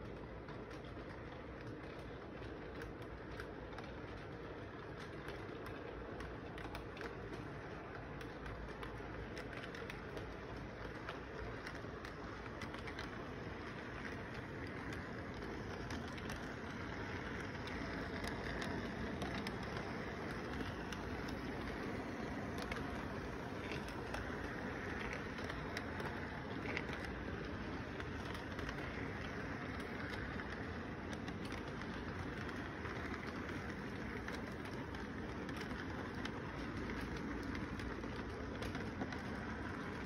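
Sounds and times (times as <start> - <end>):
model train rumbling on track: 0.0 - 40.0.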